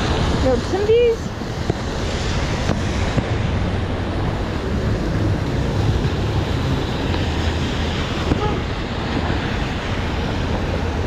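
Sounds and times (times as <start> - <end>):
heavy rain on street: 0.0 - 11.0
passing traffic: 0.0 - 11.0.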